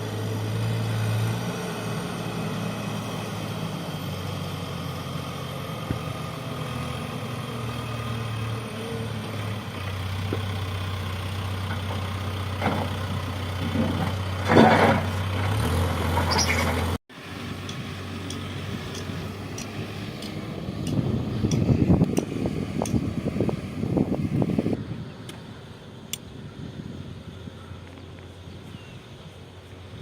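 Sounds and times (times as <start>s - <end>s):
earthmover diesel engine running: 0.0s - 30.0s.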